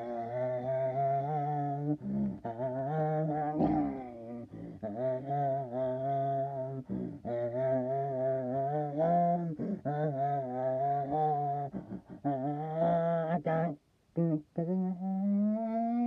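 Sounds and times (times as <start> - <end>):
low voice humming: 0.0 - 16.0.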